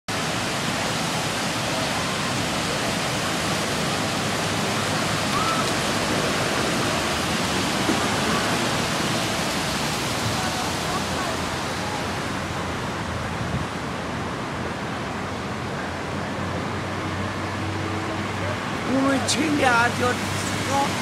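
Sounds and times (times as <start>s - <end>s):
water gushing through sluices: 0.1s - 21.0s.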